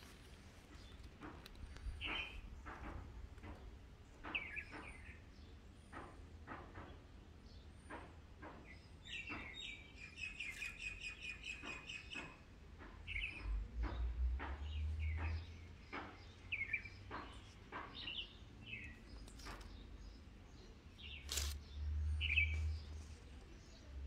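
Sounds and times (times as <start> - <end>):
birds chirping: 0.0 - 6.0, 8.6 - 24.0.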